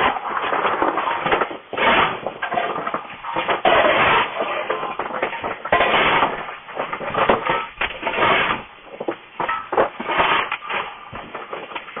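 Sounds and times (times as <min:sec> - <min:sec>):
shovel scraping coal: 0:00.0 - 0:12.0.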